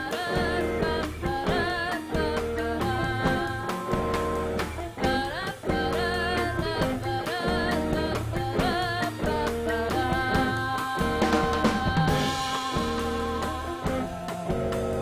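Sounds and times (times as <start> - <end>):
band playing: 0.0 - 15.0
bending electric guitar line: 0.0 - 15.0.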